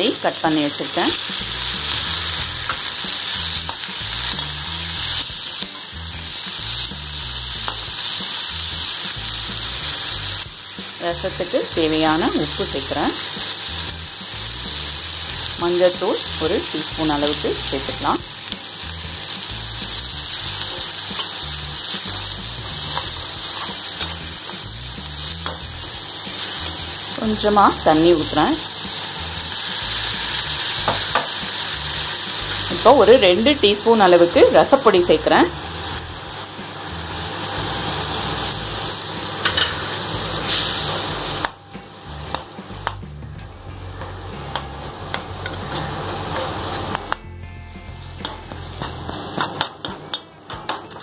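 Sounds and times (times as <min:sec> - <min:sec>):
background music: 0:00.0 - 0:51.0
vegetables sizzling in ghee: 0:00.0 - 0:51.0.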